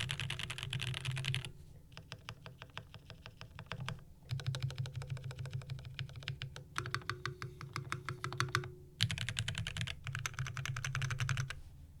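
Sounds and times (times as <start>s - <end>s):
fast typing on mechanical keyboard: 0.0s - 7.1s, 7.7s - 11.6s.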